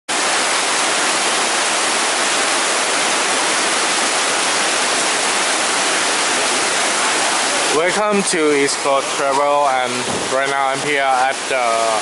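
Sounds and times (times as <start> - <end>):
heavy rain pouring: 0.1 - 12.0.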